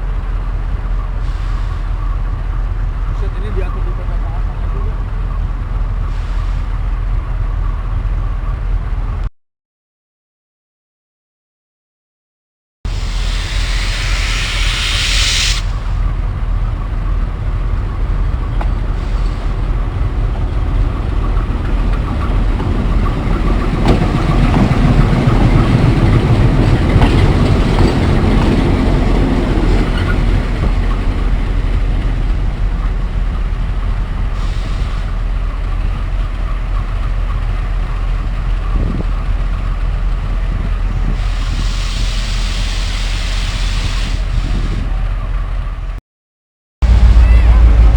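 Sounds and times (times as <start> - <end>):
train rumbling on rails: 0.0 - 9.3, 12.9 - 46.0, 46.8 - 47.9.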